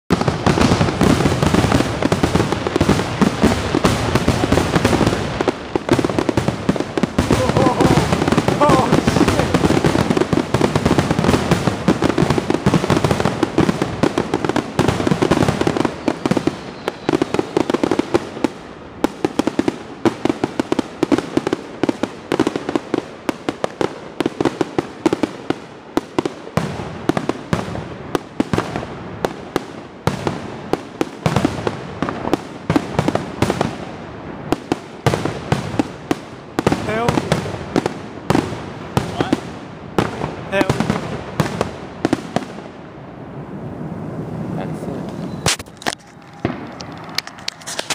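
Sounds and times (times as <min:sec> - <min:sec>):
fireworks bangs and crackles: 0:00.1 - 0:47.9
fireworks bursting: 0:00.1 - 0:47.9.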